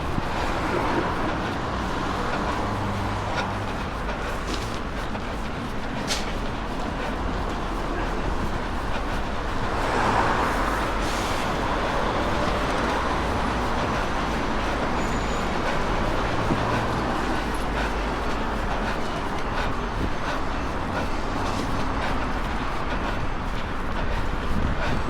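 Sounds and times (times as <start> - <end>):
street traffic passing: 0.0 - 25.0
wind rumble on microphone: 0.0 - 25.0.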